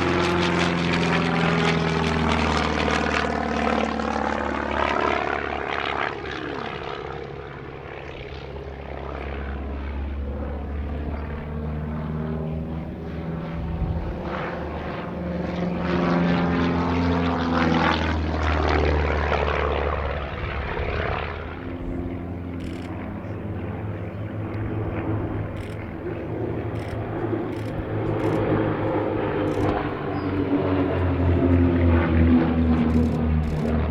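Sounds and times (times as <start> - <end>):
propeller planes flying past: 0.0 - 33.9.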